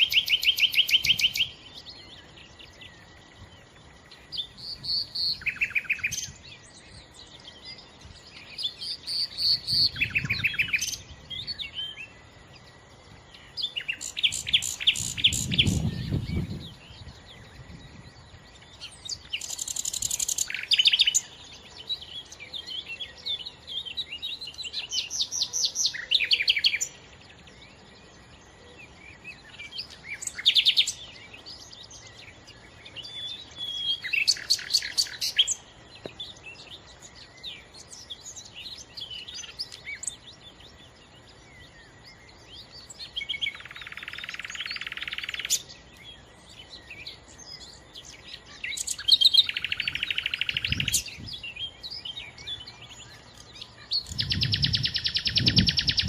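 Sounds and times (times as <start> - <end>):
nightingale singing: 0.0 - 56.0.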